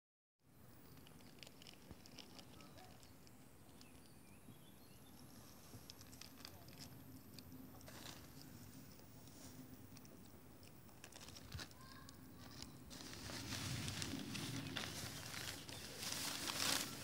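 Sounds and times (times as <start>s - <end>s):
lizards chewing meat: 0.8s - 17.0s.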